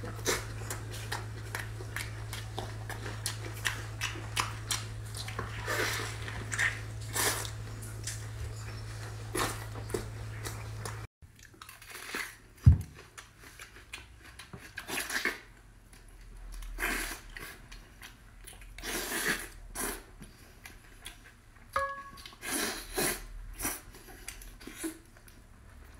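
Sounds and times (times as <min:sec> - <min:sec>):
chewing and lip-smacking: 0:00.0 - 0:12.4, 0:13.0 - 0:25.9.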